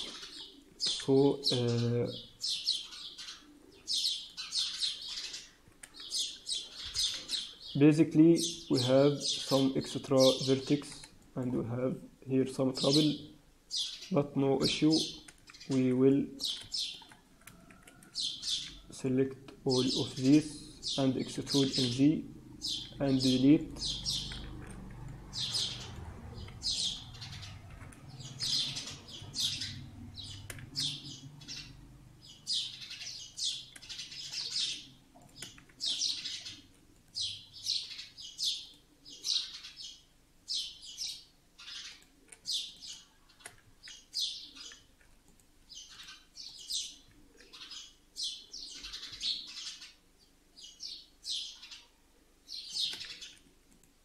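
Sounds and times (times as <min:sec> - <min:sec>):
bird chirping: 0:00.0 - 0:53.6.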